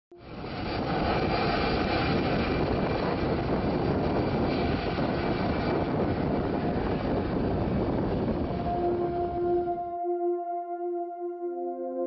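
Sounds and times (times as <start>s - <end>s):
jet engines rushing: 0.2s - 10.0s.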